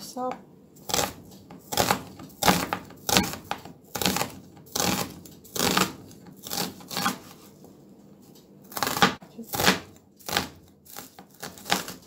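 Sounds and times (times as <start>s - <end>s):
knife slicing onion on board: 0.8s - 7.6s, 8.6s - 12.0s.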